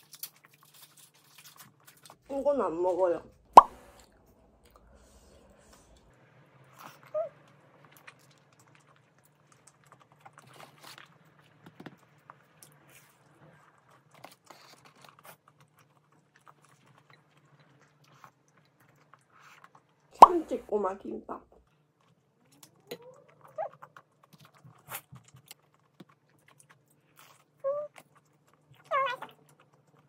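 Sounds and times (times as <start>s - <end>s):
chewing snack food: 0.0s - 2.4s, 3.3s - 20.3s, 21.6s - 30.0s.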